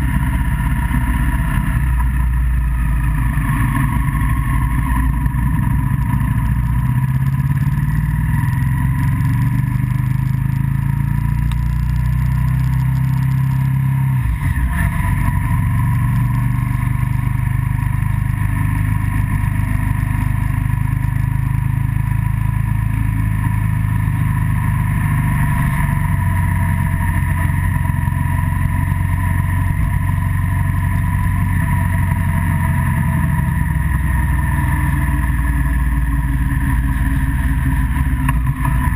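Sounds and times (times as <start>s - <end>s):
road noise: 0.0s - 38.9s
vehicle engine: 0.0s - 38.9s.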